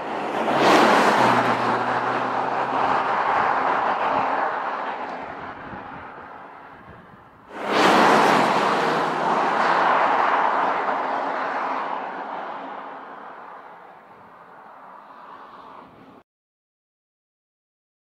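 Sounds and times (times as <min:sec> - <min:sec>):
car passing at speed: 0:00.0 - 0:16.2.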